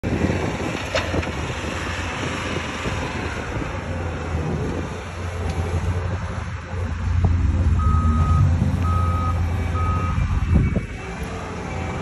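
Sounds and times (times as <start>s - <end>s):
diesel engine running: 0.1s - 12.0s.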